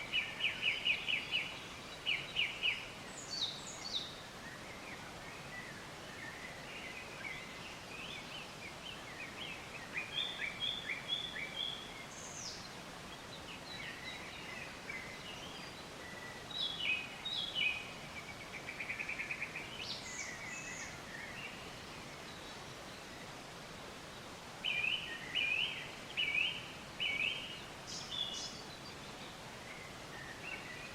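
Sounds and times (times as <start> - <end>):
steady outdoor hiss: 0.0 - 30.9.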